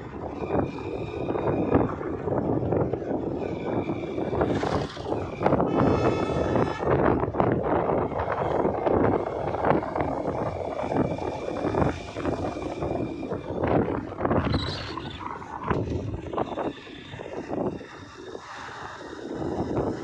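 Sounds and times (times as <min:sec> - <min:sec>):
rumbling vehicle: 0:00.0 - 0:20.0
wind buffeting microphone: 0:00.0 - 0:20.0.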